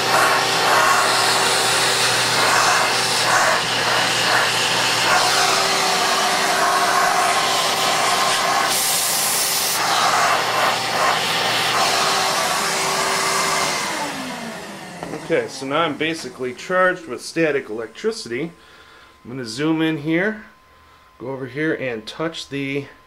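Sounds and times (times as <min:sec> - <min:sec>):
vacuum cleaner running: 0:00.0 - 0:18.5.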